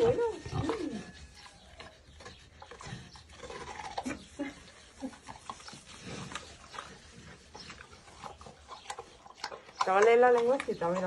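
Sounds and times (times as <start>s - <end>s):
pig chewing wetly: 0.0s - 11.0s.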